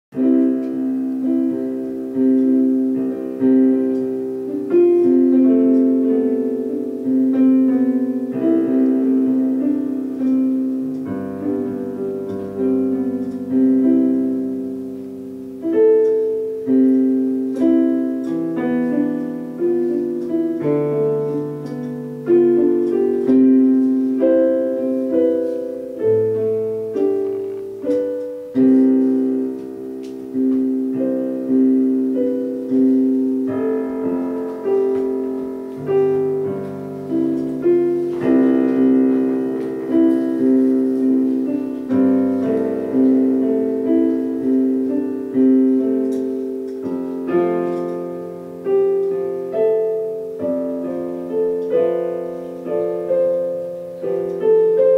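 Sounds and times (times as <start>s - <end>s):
slow solo piano music: 0.1s - 54.9s.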